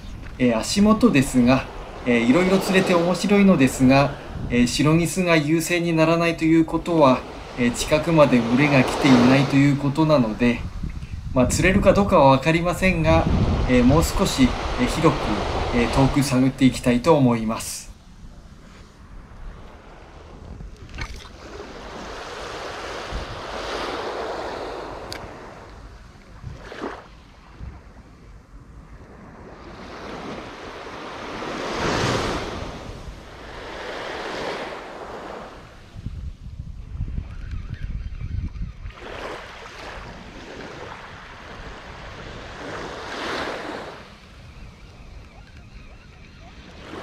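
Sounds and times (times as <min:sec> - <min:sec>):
wind on microphone: 0:00.0 - 0:05.6, 0:06.6 - 0:16.8, 0:17.9 - 0:47.0
small waves washing on shore: 0:00.0 - 0:37.3, 0:38.8 - 0:47.0.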